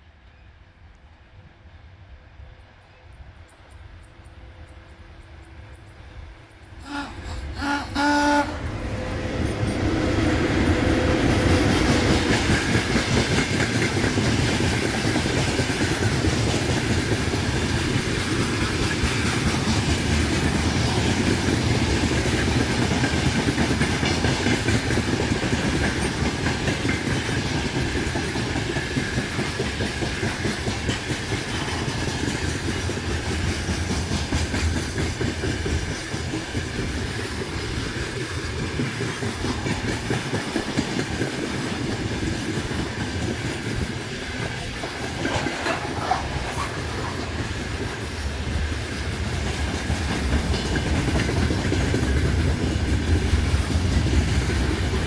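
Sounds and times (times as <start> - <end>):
electric locomotive passing: 0.0 - 55.0
train wagons clickety-clack: 8.6 - 55.0.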